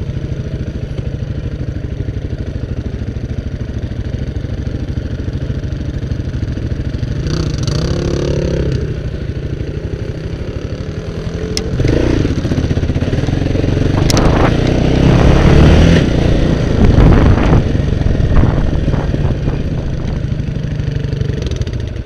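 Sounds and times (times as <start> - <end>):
quad engine pulsing: 0.0 - 22.0.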